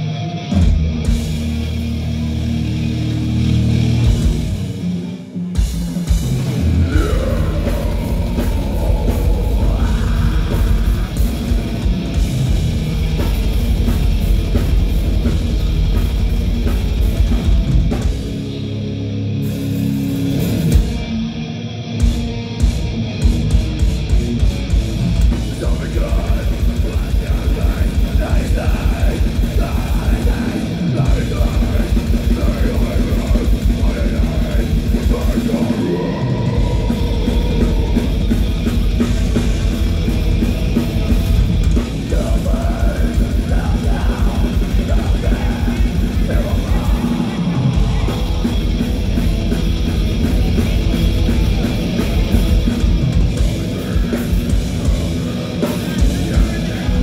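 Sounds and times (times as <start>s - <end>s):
bass guitar: 0.0s - 57.0s
distorted electric guitars: 0.0s - 57.0s
fast drum kit: 0.6s - 18.7s, 22.6s - 57.0s.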